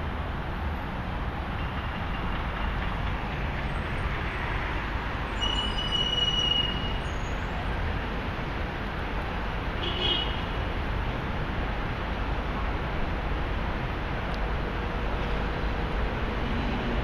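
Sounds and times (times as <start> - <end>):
street and construction noise: 0.0 - 17.0.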